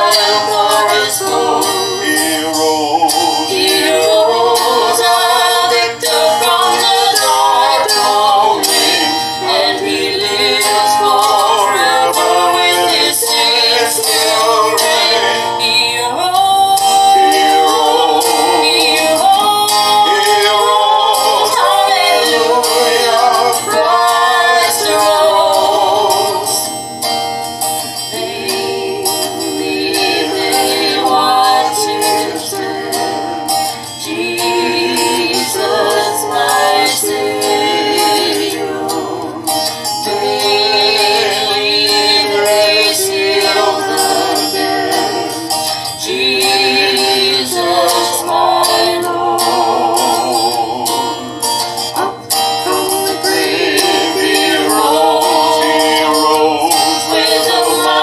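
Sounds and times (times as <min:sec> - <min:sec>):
person singing: 0:00.0 - 0:26.7, 0:28.1 - 0:58.0
instrumental accompaniment: 0:00.0 - 0:58.0.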